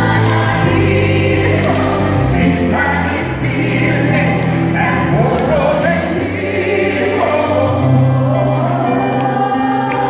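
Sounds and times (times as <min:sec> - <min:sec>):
gospel choir singing: 0:00.0 - 0:10.0
man and woman singing duet: 0:00.0 - 0:10.0
sustained instrumental backing: 0:00.0 - 0:10.0.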